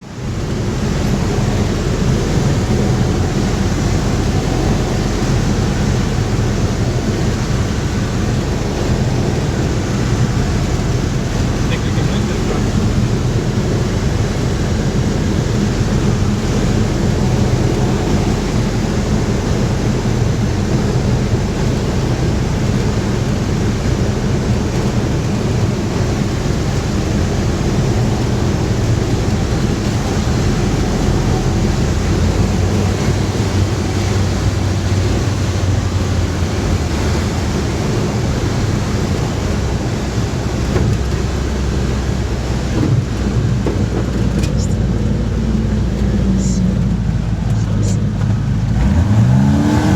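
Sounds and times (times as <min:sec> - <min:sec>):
light aircraft engine droning: 0:00.0 - 0:49.9
rushing wind noise: 0:00.0 - 0:49.9.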